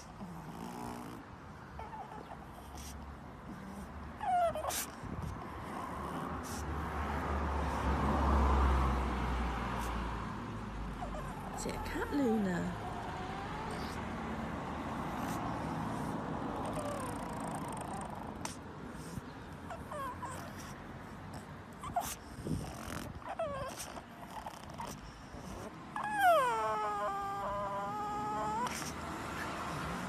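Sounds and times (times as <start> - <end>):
puppy whining: 0.0 - 6.7, 10.8 - 30.0.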